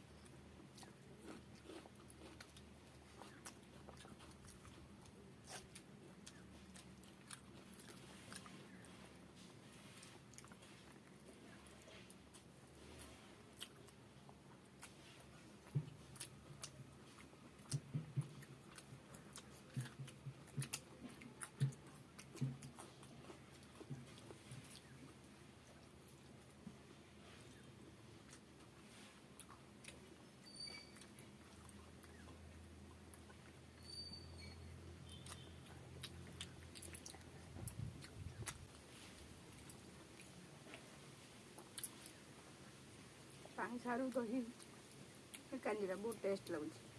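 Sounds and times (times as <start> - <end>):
person chewing food: 0.0 - 45.5.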